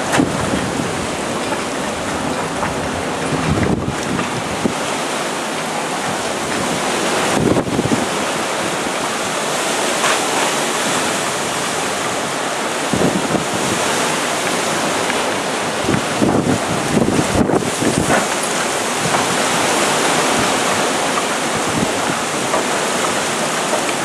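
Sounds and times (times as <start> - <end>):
wind and rain rushing hiss: 0.0 - 24.0
wind gusts buffeting microphone: 0.0 - 24.0.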